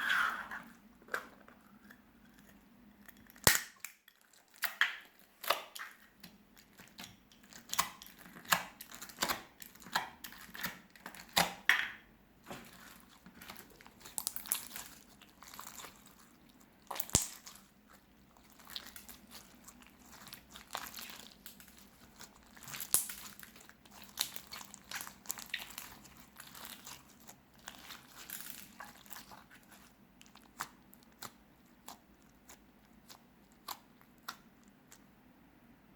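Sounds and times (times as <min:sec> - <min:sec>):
slime with rice crackling: 0:03.4 - 0:11.7, 0:12.4 - 0:35.1.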